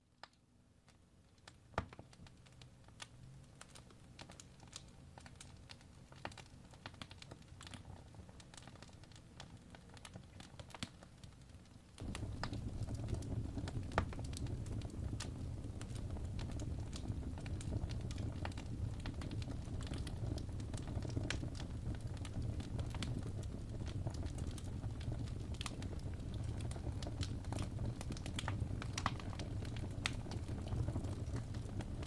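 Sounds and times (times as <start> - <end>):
wood fire crackling and popping: 0.2 - 32.0.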